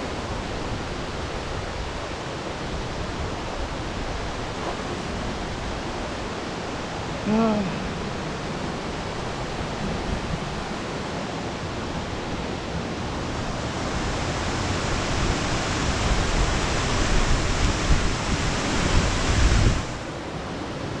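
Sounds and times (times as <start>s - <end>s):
rushing waterfall: 0.0s - 21.0s
wind rumble on microphone: 0.0s - 21.0s.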